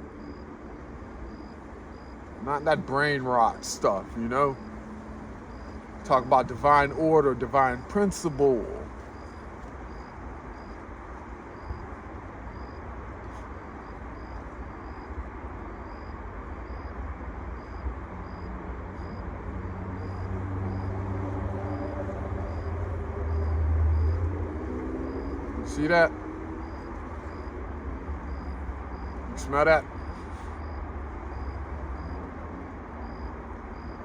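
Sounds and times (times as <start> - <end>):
vehicle engine hum: 0.0 - 34.0.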